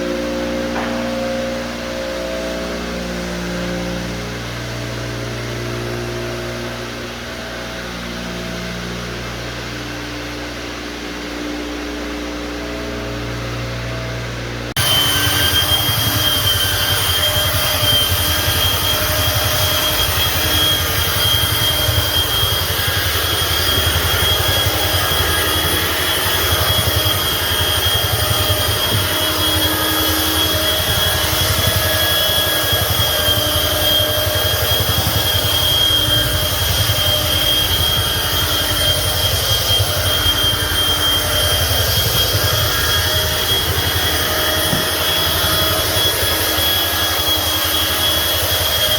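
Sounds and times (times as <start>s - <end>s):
floor buffer motor hum and whine: 0.0s - 48.9s.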